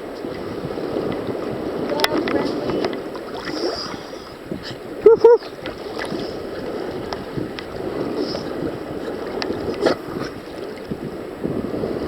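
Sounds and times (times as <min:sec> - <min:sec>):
small water splashes: 0:00.0 - 0:11.0
sea water sloshing and lapping: 0:00.0 - 0:12.0
wind rumbling on microphone: 0:00.0 - 0:12.0.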